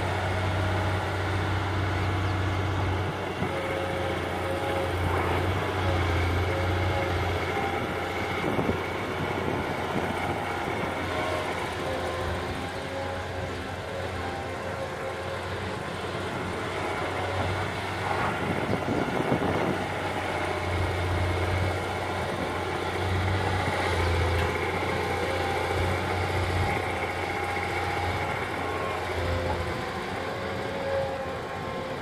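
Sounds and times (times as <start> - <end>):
excavator diesel engine: 0.0 - 32.0.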